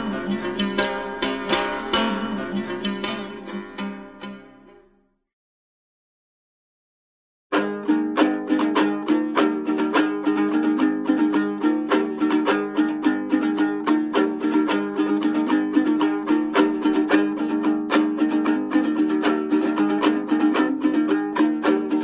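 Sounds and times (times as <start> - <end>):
plucked string instrument: 0.0 - 5.1, 7.5 - 22.0.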